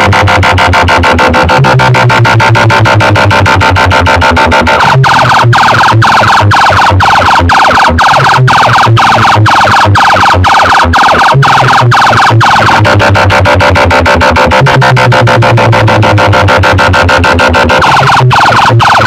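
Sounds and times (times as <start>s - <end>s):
deep bass beat: 0.0s - 19.0s
pulsing electronic siren wail: 0.0s - 19.0s.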